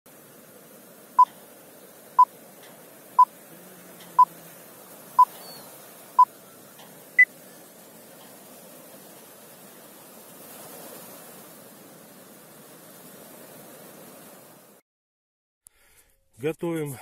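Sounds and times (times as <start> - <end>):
faint hiss: 0.1 - 14.8.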